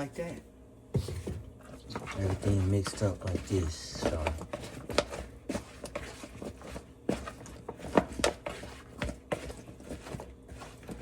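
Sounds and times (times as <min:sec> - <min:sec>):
fries tossed in a container: 0:01.9 - 0:11.0.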